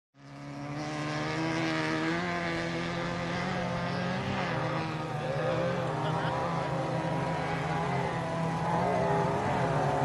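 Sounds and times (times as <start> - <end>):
off-road vehicle engine running: 0.2 - 10.0.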